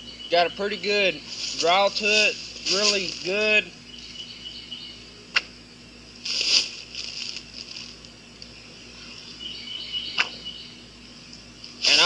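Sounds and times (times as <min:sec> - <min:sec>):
faint high insect buzz: 0:00.0 - 0:12.0.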